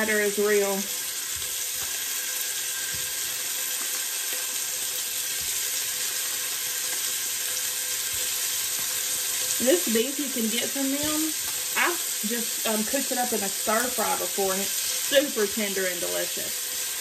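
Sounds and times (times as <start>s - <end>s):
oil sizzling in a pot: 0.0s - 17.0s.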